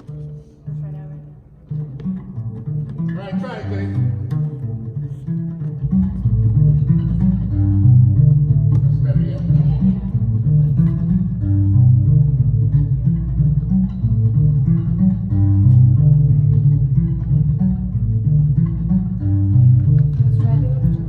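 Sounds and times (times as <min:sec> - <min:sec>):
amplified guitars: 0:00.0 - 0:21.0
low bass notes: 0:00.0 - 0:21.0.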